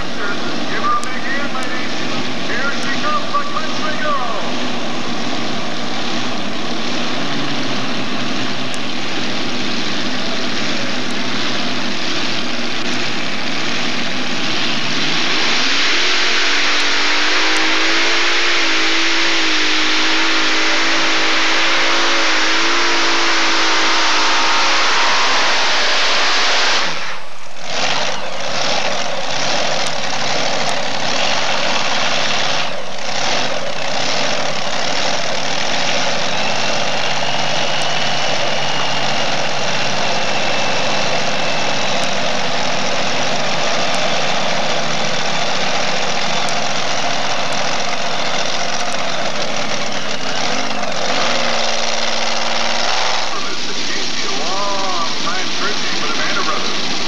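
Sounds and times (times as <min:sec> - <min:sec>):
pulling tractor engines at full throttle: 0:00.0 - 0:57.0
tractor engines idling: 0:00.0 - 0:57.0.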